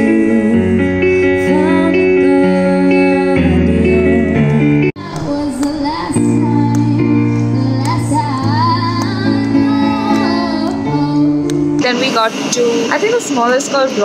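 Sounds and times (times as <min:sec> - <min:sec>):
electric keyboard chords: 0:00.0 - 0:14.0
woman singing with vibrato: 0:00.0 - 0:14.0.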